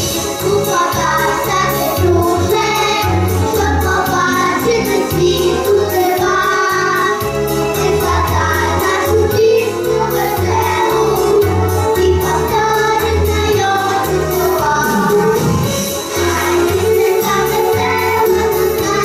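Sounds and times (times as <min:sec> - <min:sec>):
backing music with bass and beat: 0:00.0 - 0:19.0
young children singing: 0:00.1 - 0:19.0.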